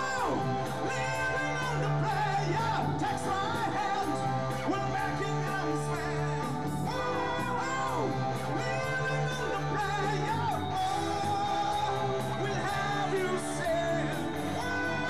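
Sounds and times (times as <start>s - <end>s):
live rock band playing: 0.0s - 15.0s
man singing into microphone: 0.0s - 15.0s.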